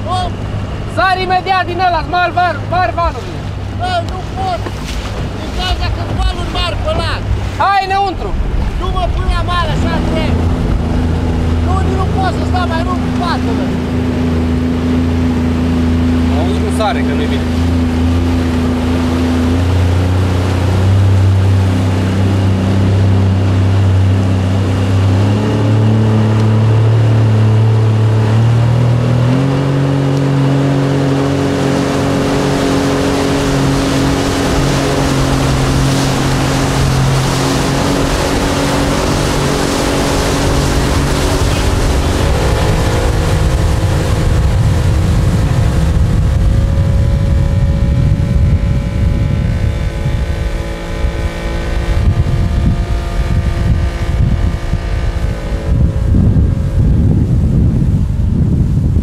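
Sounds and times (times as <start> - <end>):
jet boat engine running: 0.0 - 59.0
water rushing and spraying: 0.0 - 59.0.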